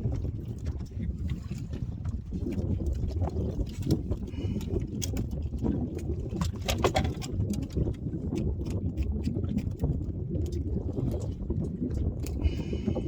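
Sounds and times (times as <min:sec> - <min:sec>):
low rumble of wind: 0:00.0 - 0:13.0
water: 0:00.0 - 0:13.0.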